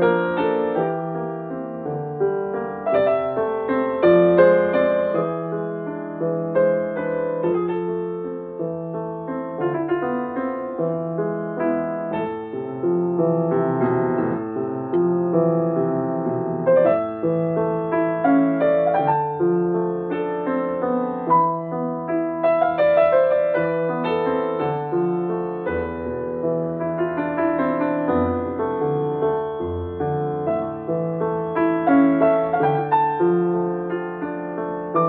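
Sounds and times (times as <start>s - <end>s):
solo piano piece: 0.0s - 35.0s.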